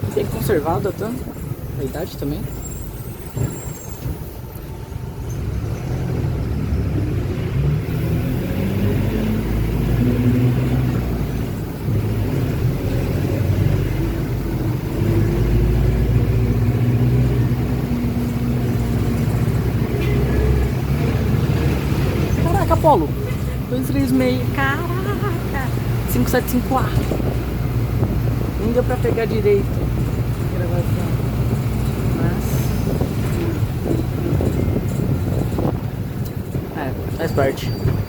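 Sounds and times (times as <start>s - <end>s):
bus engine rumble: 0.0s - 38.0s.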